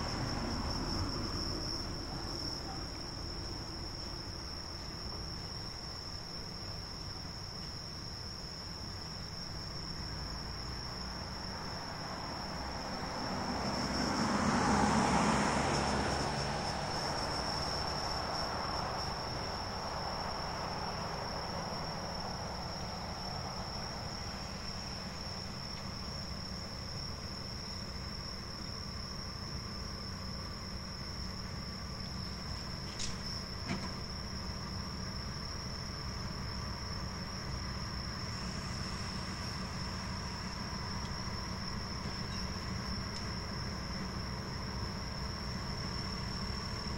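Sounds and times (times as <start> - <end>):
crickets chirring: 0.0 - 46.9.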